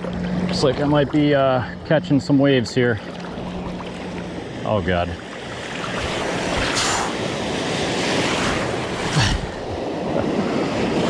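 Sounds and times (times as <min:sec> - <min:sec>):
surf washing over sandbar: 0:00.0 - 0:11.0.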